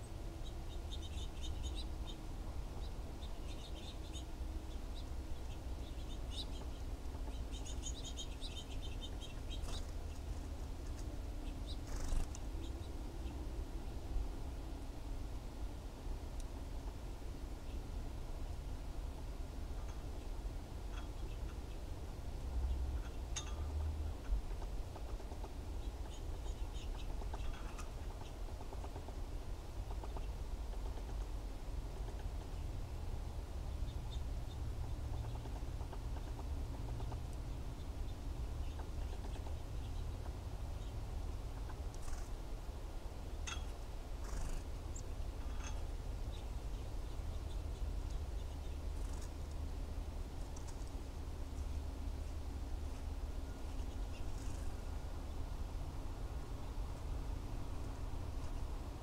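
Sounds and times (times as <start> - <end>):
small birds chirping: 0.0 - 13.9, 14.5 - 58.8
steady low rumble: 0.0 - 59.0.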